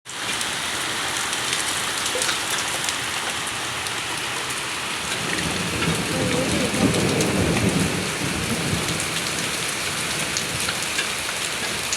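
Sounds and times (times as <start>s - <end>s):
heavy rain falling: 0.1s - 11.9s.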